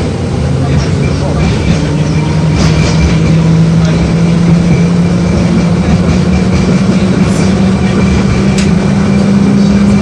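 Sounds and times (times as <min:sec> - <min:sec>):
tram traction drive hum: 0:00.0 - 0:10.0
wheels rumbling on rails: 0:00.0 - 0:10.0.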